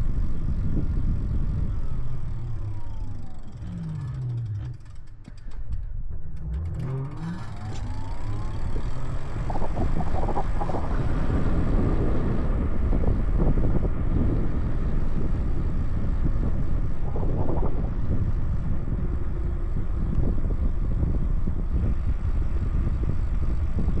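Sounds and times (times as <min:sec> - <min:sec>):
e-bike motor whine: 0:00.0 - 0:24.0
wind noise on microphone: 0:00.0 - 0:24.0.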